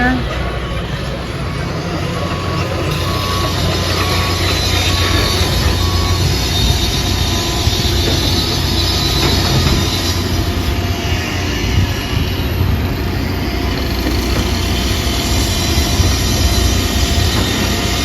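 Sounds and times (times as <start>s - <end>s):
high wheel squeal: 0.0s - 18.0s
train rumbling past: 0.0s - 18.0s.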